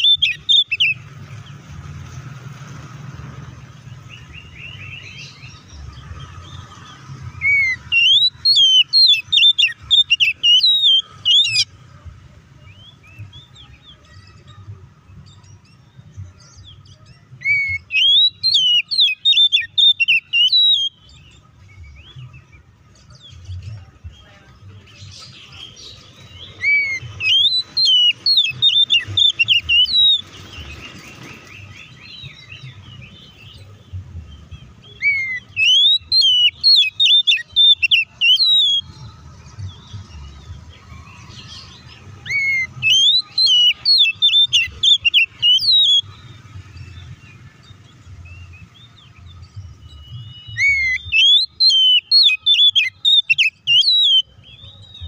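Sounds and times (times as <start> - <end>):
bird song whistled notes: 0.0 - 2.2, 3.6 - 11.8, 12.6 - 55.0.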